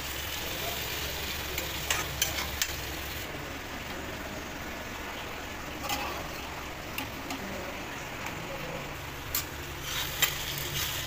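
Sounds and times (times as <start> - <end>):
onions frying hiss: 0.0 - 4.7, 5.4 - 11.0.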